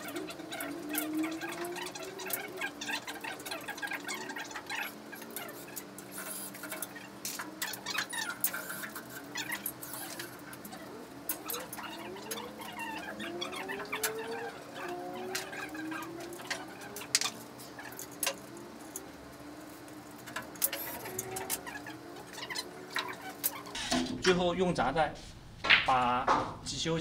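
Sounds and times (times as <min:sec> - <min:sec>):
rising gliding squeaks: 0:00.0 - 0:24.0.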